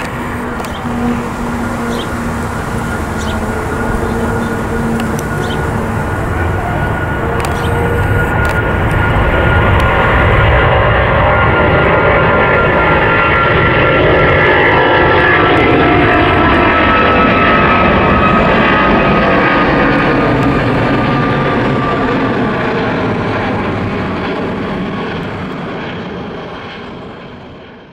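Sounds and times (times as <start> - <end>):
jet engine roar with whine: 0.0 - 27.9.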